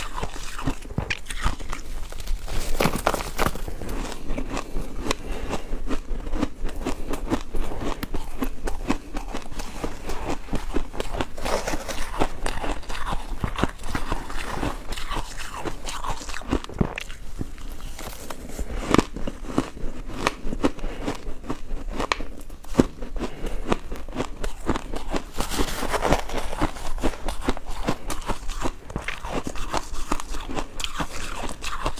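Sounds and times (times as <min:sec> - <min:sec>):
ice being chewed: 0:00.0 - 0:31.9.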